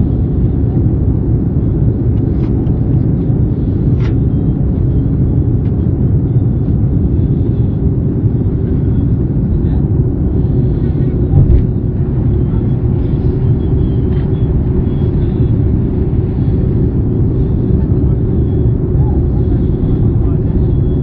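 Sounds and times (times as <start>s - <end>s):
airliner cabin engine roar: 0.0s - 21.0s.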